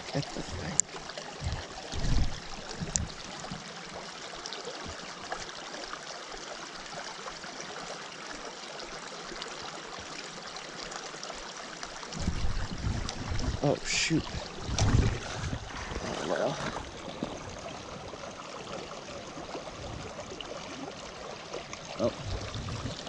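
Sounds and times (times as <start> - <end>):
creek running over rocks: 0.0 - 23.0.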